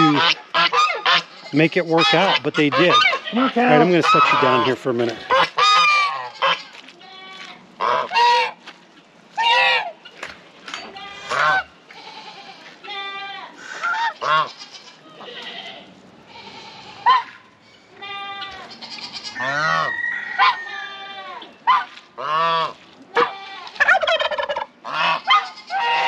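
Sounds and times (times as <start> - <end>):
geese honking: 0.0 - 6.8, 7.4 - 8.6, 9.3 - 10.3, 11.0 - 12.4, 13.6 - 15.7, 16.3 - 17.4, 18.0 - 26.0.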